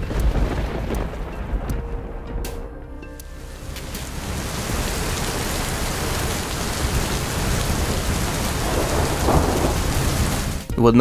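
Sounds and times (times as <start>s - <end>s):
heavy rain pouring: 0.0s - 1.8s, 3.2s - 10.7s
thunder: 0.0s - 2.5s, 3.7s - 10.7s.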